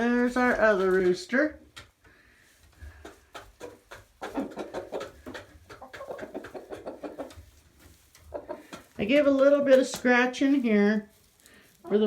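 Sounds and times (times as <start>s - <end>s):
birds pecking and scratching grain: 0.0s - 12.0s
chickens clucking: 0.0s - 12.0s.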